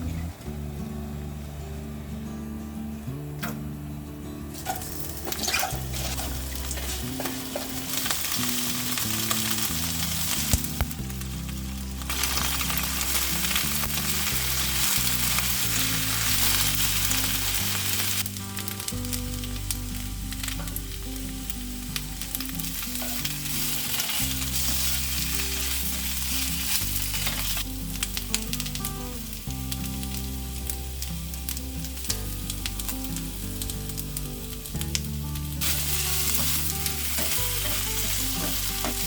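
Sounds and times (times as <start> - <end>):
soft background music: 0.0 - 39.0
food sizzling in a frying pan: 4.5 - 39.0.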